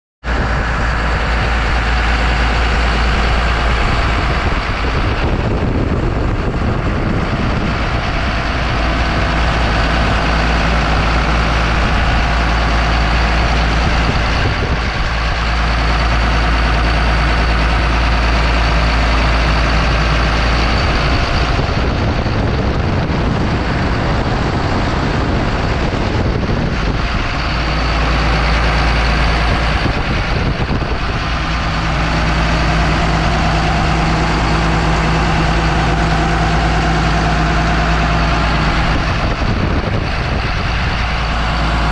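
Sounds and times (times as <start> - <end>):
excavator diesel engine running: 0.2 - 41.9.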